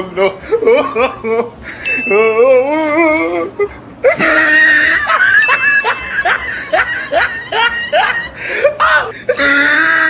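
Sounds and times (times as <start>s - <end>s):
person whimpering and crying: 0.0s - 5.2s, 5.8s - 10.0s.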